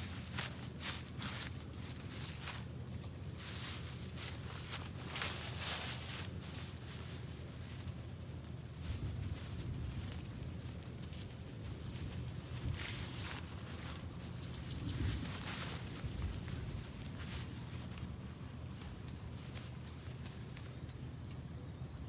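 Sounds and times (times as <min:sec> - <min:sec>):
faint rustling: 0:00.0 - 0:21.4.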